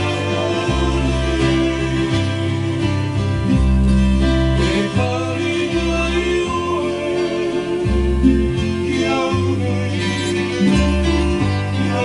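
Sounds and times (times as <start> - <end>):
man singing: 0.0 - 3.2, 4.6 - 12.0
guitar: 0.0 - 12.0
ukulele: 0.0 - 12.0.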